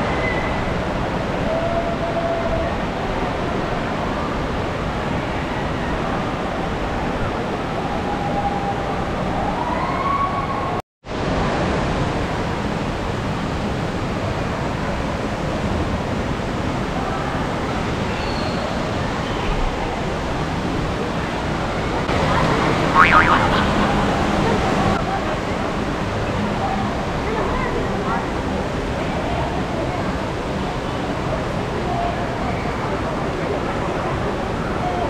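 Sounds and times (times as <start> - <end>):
flowing water rushing: 0.0 - 9.7, 10.4 - 35.0.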